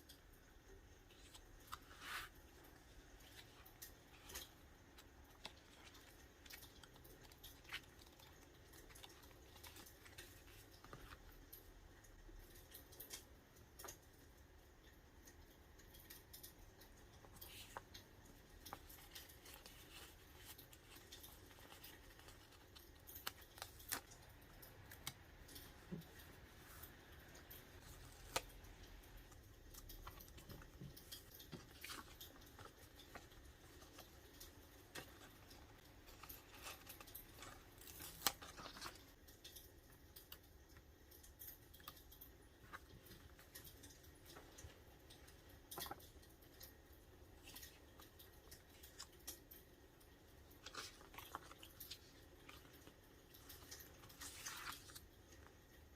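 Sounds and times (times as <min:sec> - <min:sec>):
paper rustling and clicks: 0:01.0 - 0:11.6, 0:15.8 - 0:49.6, 0:50.2 - 0:55.9.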